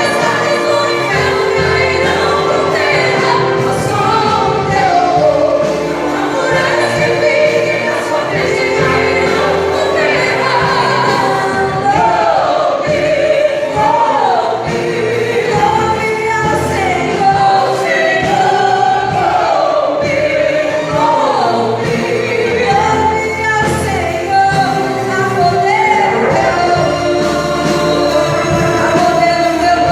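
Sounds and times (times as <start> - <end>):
choir singing gospel song: 0.0 - 29.9
church orchestra: 0.0 - 29.9.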